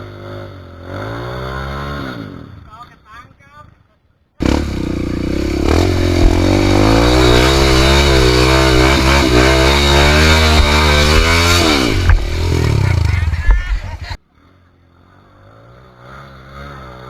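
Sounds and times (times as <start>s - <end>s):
dirt bike engine revving: 0.0s - 2.8s, 4.4s - 17.0s.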